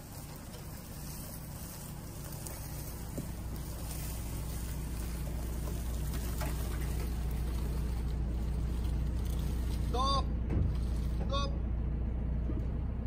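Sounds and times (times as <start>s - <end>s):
car engine running at low speed: 0.0s - 13.0s.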